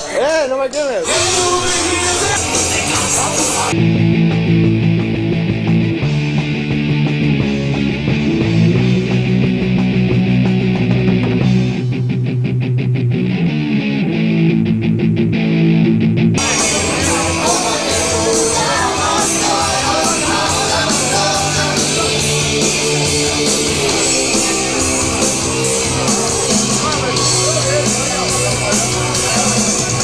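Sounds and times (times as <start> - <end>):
drums fast beat: 1.0 - 12.4, 16.4 - 30.0
electric guitar: 1.0 - 30.0
punk band playing live: 1.0 - 30.0.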